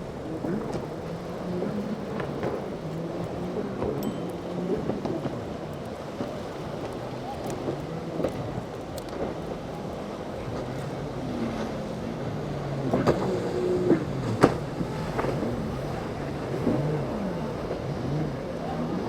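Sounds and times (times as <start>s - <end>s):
boat engines running: 0.0s - 19.0s
wind on microphone: 0.0s - 19.0s.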